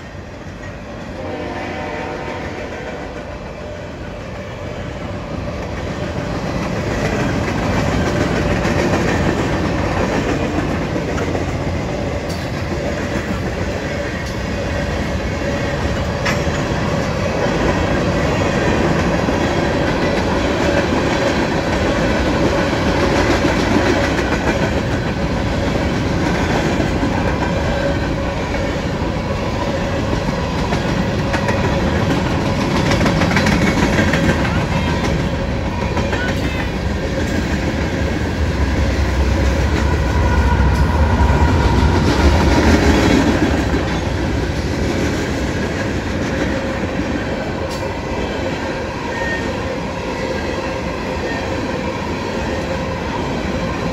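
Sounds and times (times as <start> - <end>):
wheels rumbling on rail: 0.0 - 53.9.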